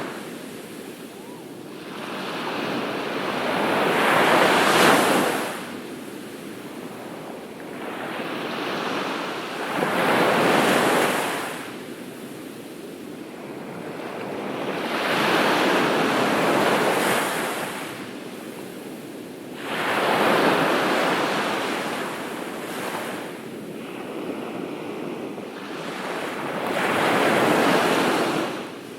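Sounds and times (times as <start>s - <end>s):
ocean waves breaking on beach: 0.0s - 28.9s.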